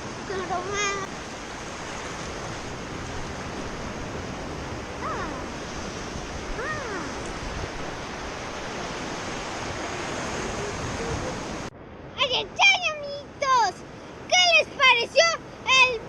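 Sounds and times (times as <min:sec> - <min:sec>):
ocean surf washing on shore: 0:00.0 - 0:16.0.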